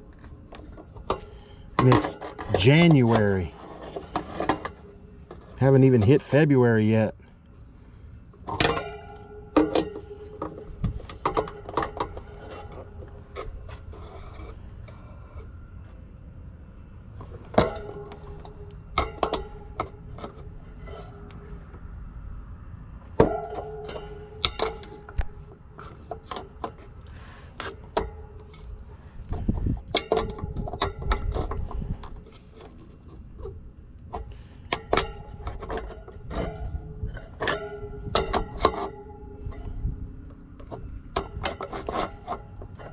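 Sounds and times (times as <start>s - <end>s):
metal grille ringing: 0.0s - 15.9s, 17.2s - 42.9s.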